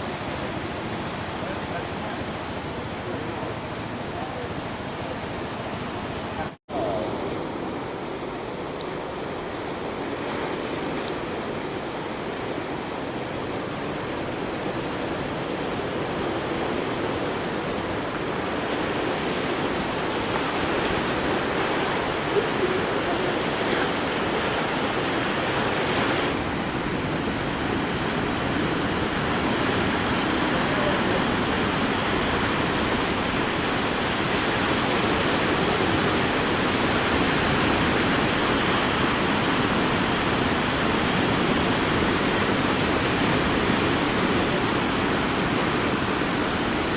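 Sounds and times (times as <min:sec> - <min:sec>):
ocean waves breaking: 0:00.0 - 0:46.9.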